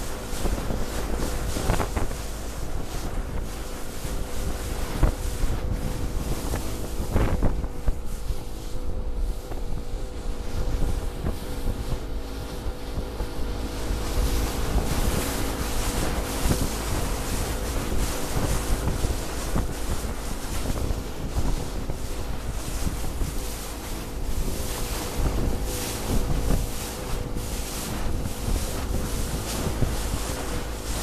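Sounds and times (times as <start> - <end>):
boat engine drone: 0.0 - 31.0
hull thumping on waves: 0.0 - 31.0
water rushing past hull: 0.0 - 31.0
wind buffeting microphone: 0.0 - 31.0.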